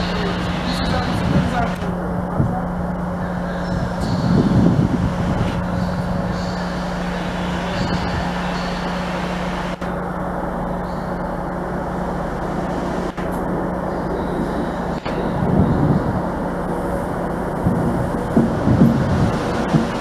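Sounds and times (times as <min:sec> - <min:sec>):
train engine hum: 0:00.0 - 0:20.0.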